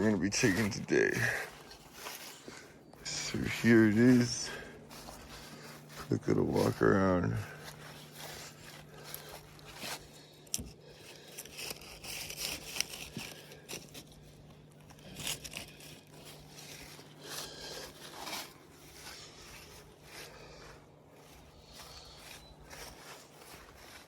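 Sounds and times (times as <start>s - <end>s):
faint low hum: 0.0s - 24.0s
footsteps through dry weeds: 0.0s - 24.0s.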